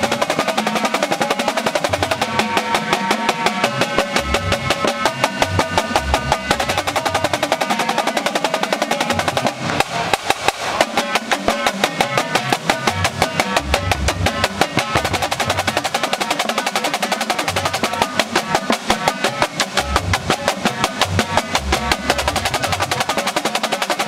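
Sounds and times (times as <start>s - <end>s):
snare and tenor drums: 0.0s - 24.0s.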